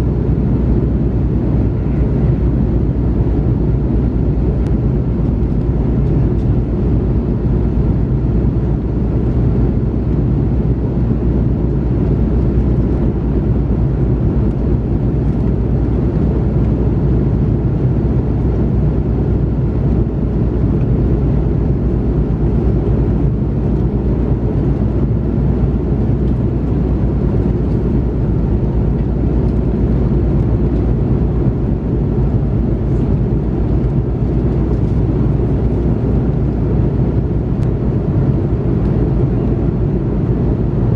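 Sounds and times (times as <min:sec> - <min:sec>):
jet engines humming: 0:00.0 - 0:40.9.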